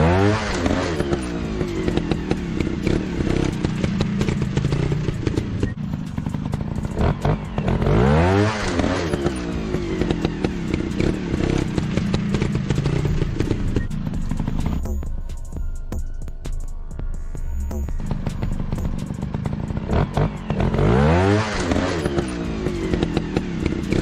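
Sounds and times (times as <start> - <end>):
dirt bike engine revving: 0.0 - 14.9, 17.8 - 24.0.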